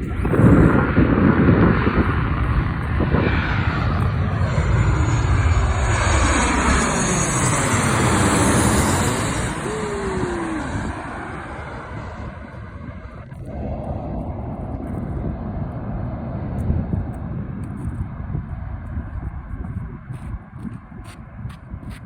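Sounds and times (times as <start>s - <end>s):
jet aircraft passing overhead: 0.0s - 22.0s.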